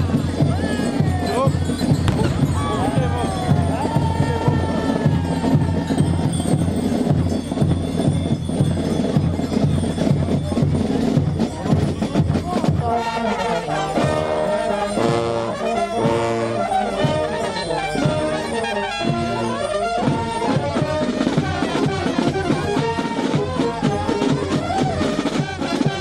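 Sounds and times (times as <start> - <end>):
brass melody: 0.0 - 7.6, 12.4 - 26.0
brass band music with drums: 0.0 - 26.0.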